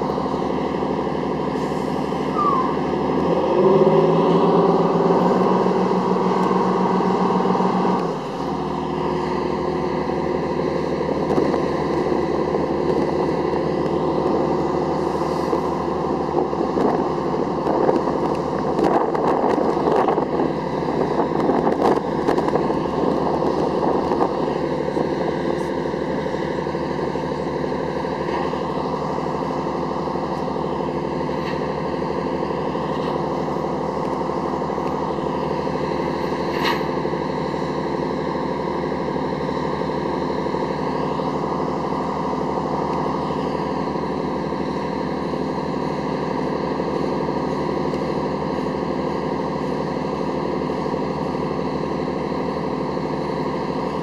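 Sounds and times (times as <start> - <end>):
diesel engines revving and idling: 0.0 - 54.0.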